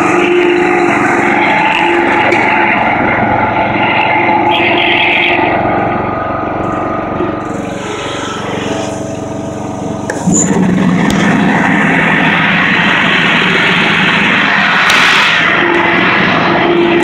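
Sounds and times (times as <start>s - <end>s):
broad rushing noise: 0.0s - 17.0s
riding lawn mower engine: 0.0s - 17.0s.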